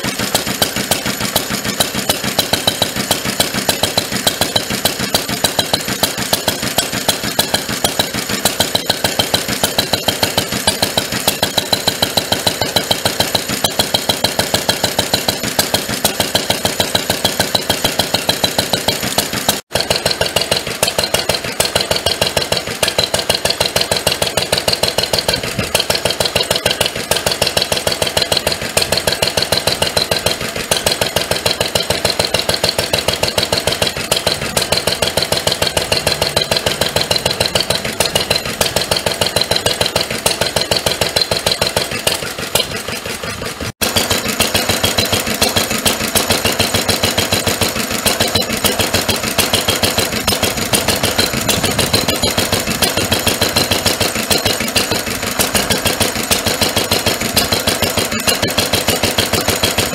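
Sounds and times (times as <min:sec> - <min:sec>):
stationary engine running: 0:00.0 - 0:59.9.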